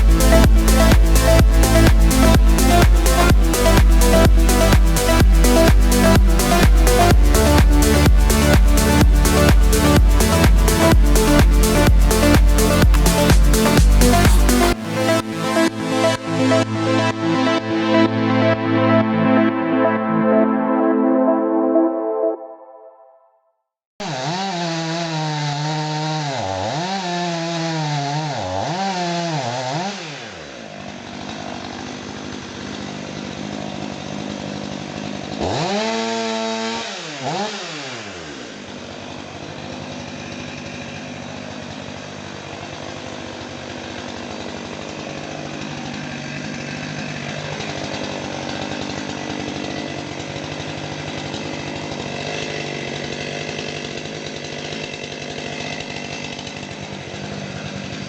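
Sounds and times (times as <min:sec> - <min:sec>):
chainsaw revving: 0:00.0 - 0:18.0, 0:24.0 - 0:58.0.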